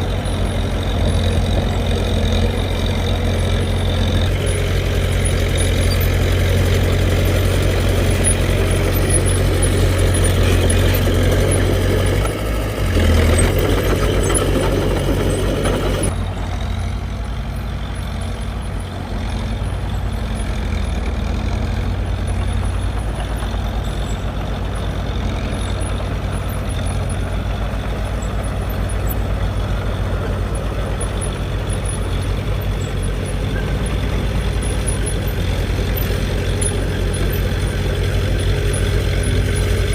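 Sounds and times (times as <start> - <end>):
diesel engine running: 0.0 - 39.9
rough machine working sound: 0.0 - 39.9.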